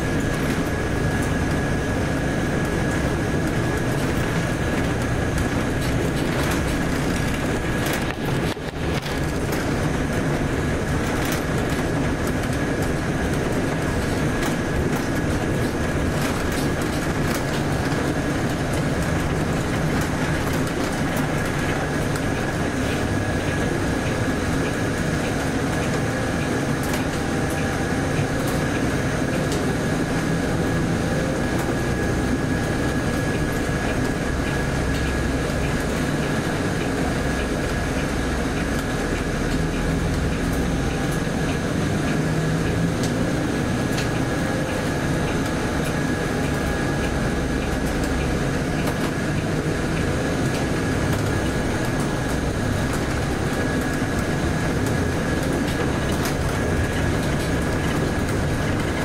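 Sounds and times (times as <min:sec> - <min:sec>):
bus diesel engine: 0:00.0 - 0:59.0
road rumble: 0:00.0 - 0:59.0.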